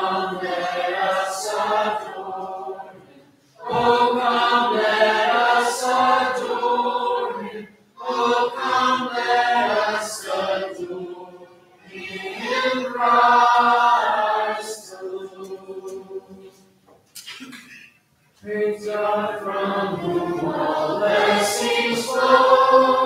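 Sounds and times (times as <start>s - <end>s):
congregation singing a hymn: 0.0s - 16.8s, 18.4s - 23.0s.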